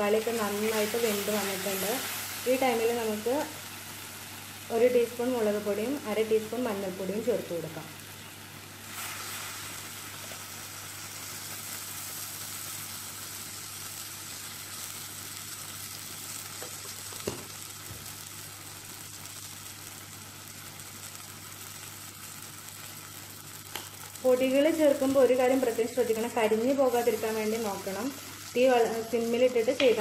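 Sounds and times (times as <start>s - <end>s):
onion and tomato sizzling: 0.0s - 30.0s.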